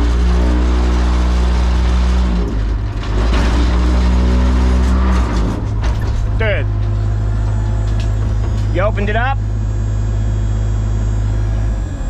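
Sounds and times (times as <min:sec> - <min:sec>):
heavy engine running: 0:00.0 - 0:12.0.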